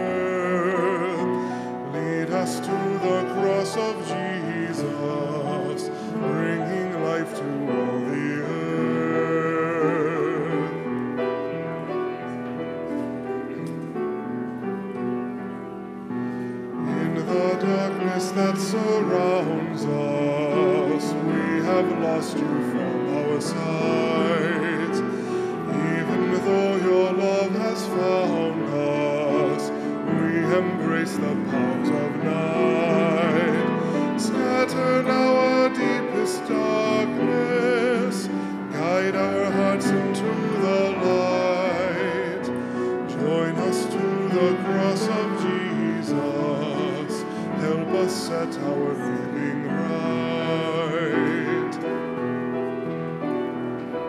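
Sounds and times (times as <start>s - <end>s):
person singing a hymn: 0.0s - 54.0s
piano accompaniment: 0.0s - 54.0s.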